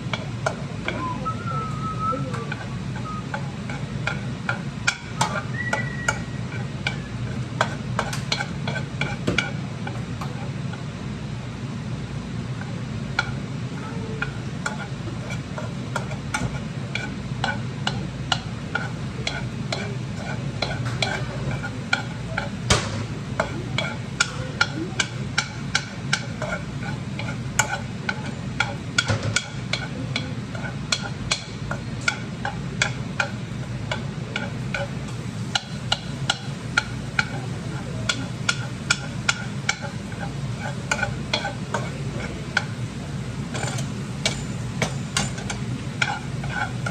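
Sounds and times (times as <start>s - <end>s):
utensil tapping a frying pan: 0.0s - 1.0s, 2.3s - 11.0s, 12.5s - 13.4s, 14.2s - 46.9s
light frying: 0.0s - 46.9s
steady low hum: 0.0s - 46.9s.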